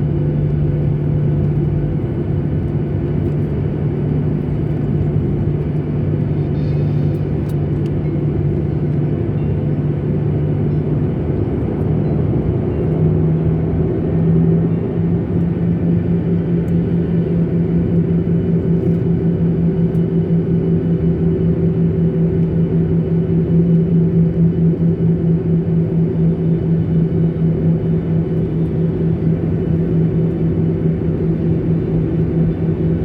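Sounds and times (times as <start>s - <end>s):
airliner cabin engine rumble: 0.0s - 33.0s
low hum: 0.0s - 33.0s.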